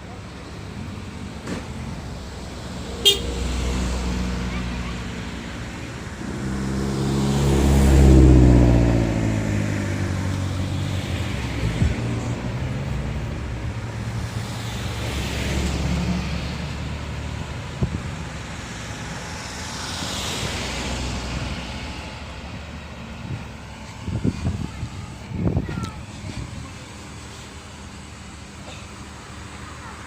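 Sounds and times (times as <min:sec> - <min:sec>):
vehicle engines running: 0:00.0 - 0:30.0.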